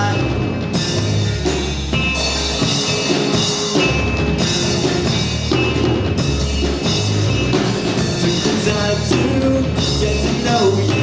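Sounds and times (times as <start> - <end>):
drum kit: 0.0 - 11.0
live rock band playing: 0.0 - 11.0.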